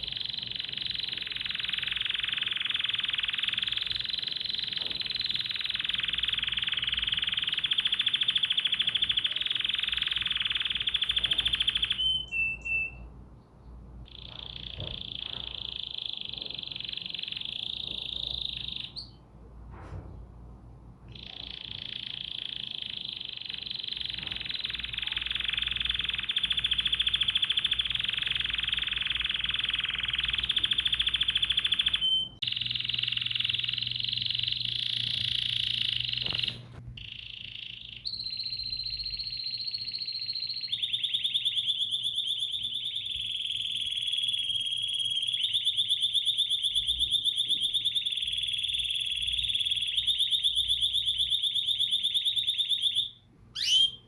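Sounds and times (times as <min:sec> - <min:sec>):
songbird trilling: 0:00.0 - 0:13.1, 0:14.1 - 0:19.2, 0:21.1 - 0:54.0.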